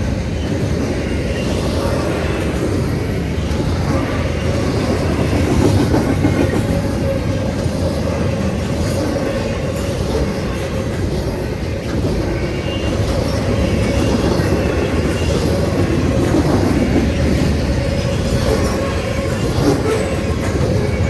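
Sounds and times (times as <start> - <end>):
freight train wheels on rail: 0.0 - 21.0.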